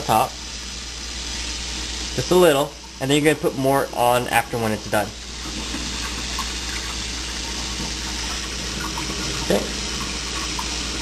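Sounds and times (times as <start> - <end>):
kitchen tap running: 0.0 - 11.0.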